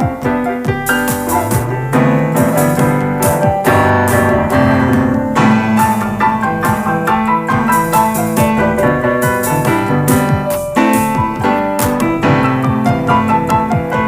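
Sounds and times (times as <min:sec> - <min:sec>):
electric piano chords: 0:00.0 - 0:14.0
electronic drum beat: 0:00.0 - 0:14.0.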